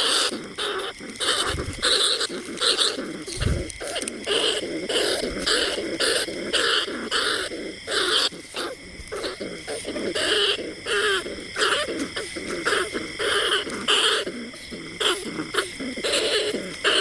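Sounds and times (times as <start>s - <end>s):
rat squeaking and chattering calls: 0.0s - 17.0s.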